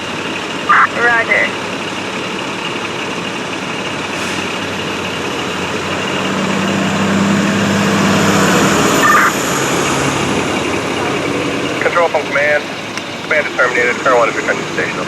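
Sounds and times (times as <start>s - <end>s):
large vehicle engine running: 0.0s - 15.0s.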